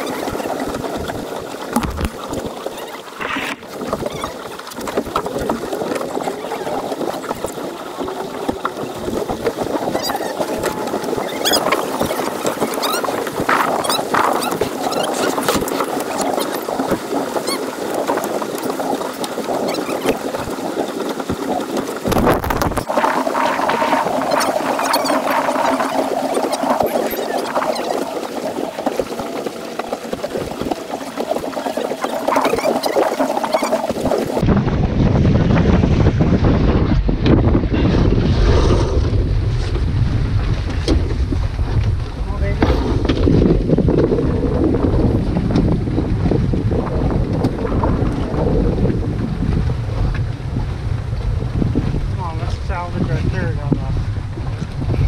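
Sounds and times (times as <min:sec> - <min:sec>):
water splashing along hull: 0:00.0 - 0:55.0
wind on microphone: 0:00.0 - 0:55.0.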